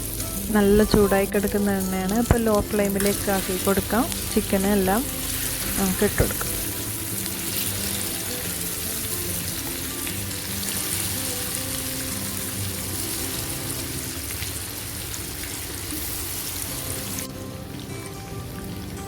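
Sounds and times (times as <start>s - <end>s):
background music: 0.0s - 19.0s
chicken sizzling in hot oil: 0.0s - 19.0s.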